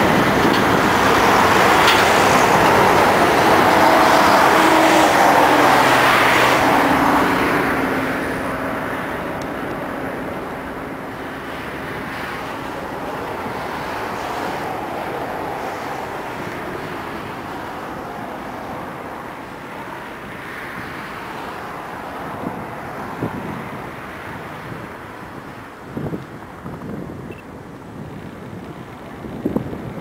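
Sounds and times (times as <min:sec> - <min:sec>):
jet engines at takeoff thrust: 0:00.0 - 0:30.0.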